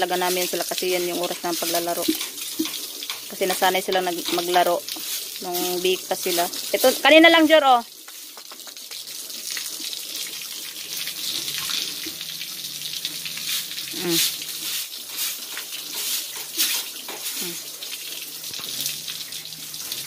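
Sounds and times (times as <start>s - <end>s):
hose water spraying and splashing: 0.0s - 20.0s.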